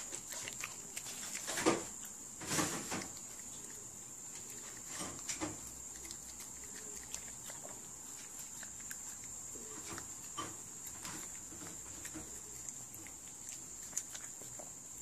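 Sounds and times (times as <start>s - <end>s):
puppy chewing: 0.0s - 15.0s.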